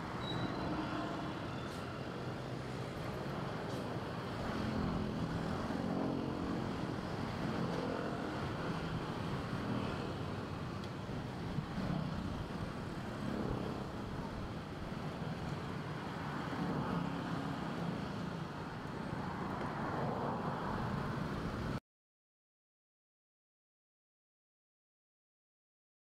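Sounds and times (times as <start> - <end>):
car and motorbike engines: 0.0 - 21.8.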